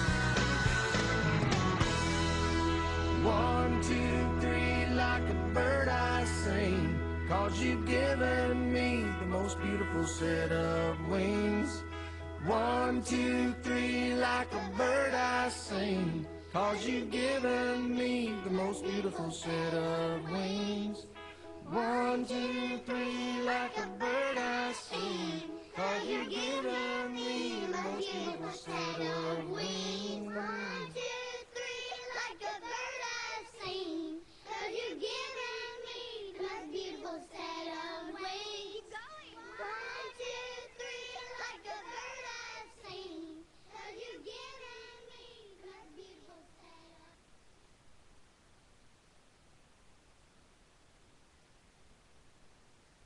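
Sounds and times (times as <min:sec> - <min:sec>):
pop song with child-like singing: 0:00.0 - 0:47.3.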